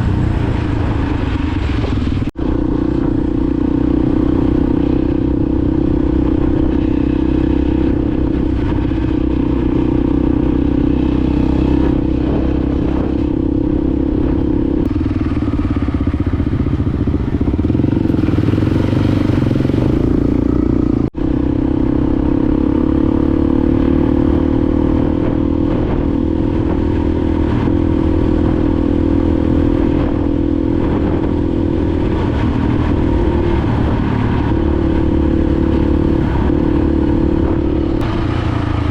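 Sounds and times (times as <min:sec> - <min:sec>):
trail bike engine running: 0:02.3 - 0:38.9.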